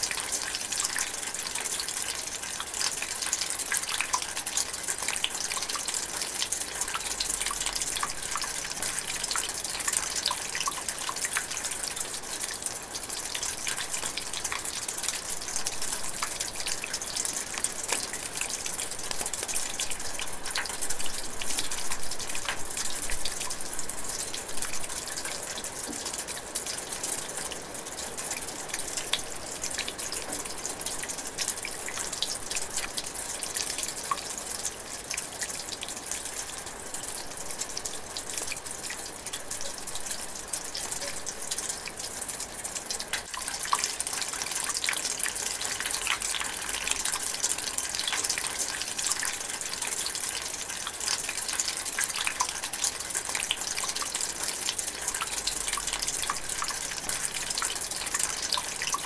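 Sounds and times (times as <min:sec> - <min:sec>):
light rain falling: 0:00.0 - 0:59.0
raindrops pattering and dripping: 0:00.0 - 0:59.0.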